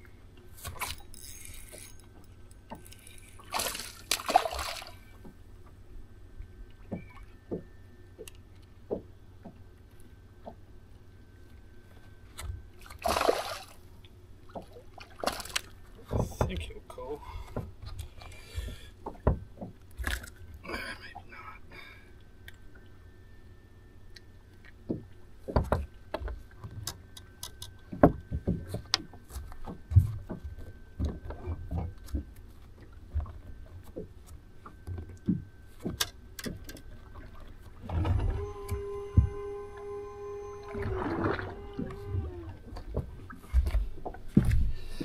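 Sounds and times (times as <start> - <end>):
constant low rumble: 0.0 - 45.0.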